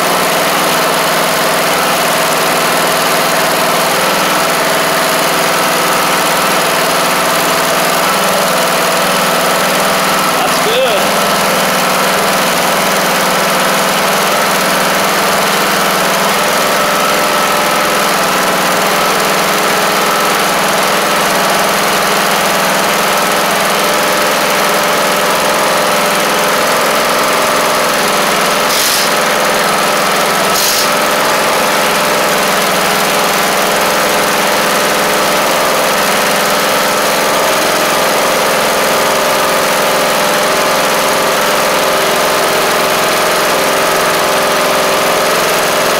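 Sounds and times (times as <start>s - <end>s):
lawn tractor engine idling: 0.0s - 45.9s.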